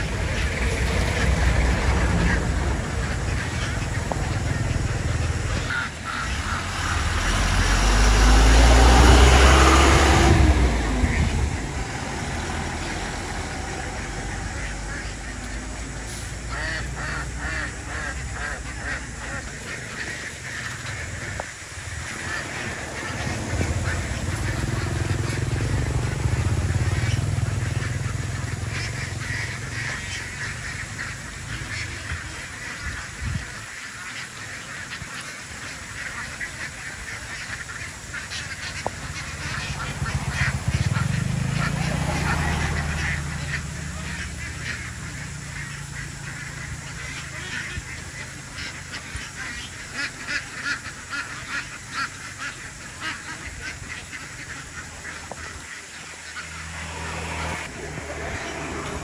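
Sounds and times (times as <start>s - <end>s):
ducks quacking: 0.0s - 59.0s
motor vehicle passing: 0.0s - 59.0s.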